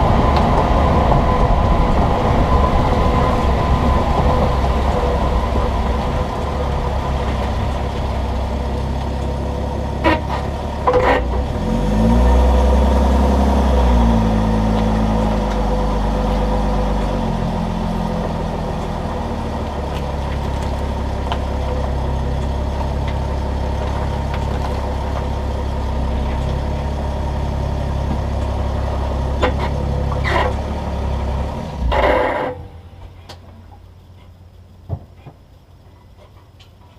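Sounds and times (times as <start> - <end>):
vehicle engine and road noise: 0.0 - 36.9.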